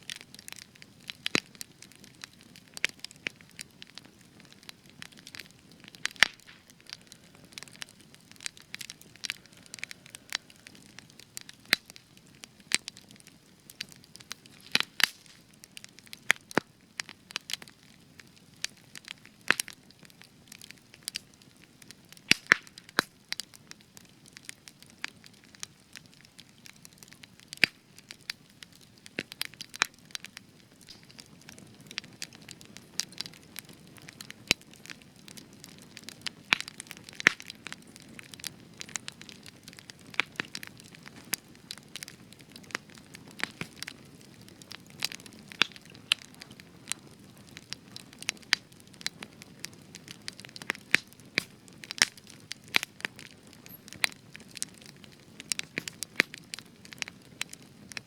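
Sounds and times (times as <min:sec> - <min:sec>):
low hiss of burning: 0:00.0 - 0:58.0
wood fire crackling and popping: 0:00.0 - 0:58.0.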